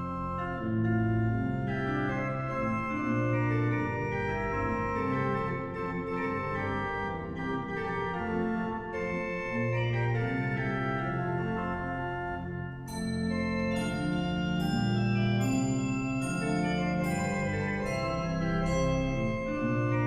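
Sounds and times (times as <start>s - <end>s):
church pipe organ playing: 0.0s - 20.0s.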